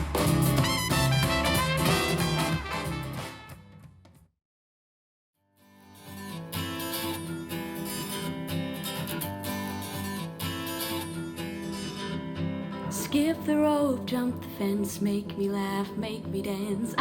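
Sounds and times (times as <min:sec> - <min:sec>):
acoustic guitar song over speaker: 0:00.0 - 0:03.5, 0:05.6 - 0:17.0.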